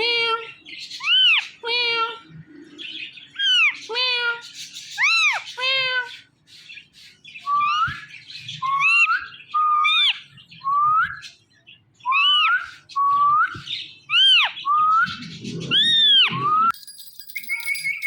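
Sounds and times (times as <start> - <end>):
parrots calling: 0.0 - 16.8.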